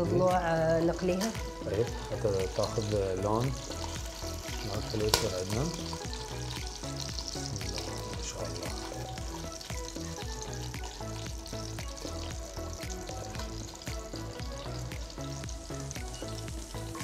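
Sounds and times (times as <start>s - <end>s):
background music with steady beat: 0.0s - 17.0s
ribs sizzling in oil: 0.0s - 17.0s.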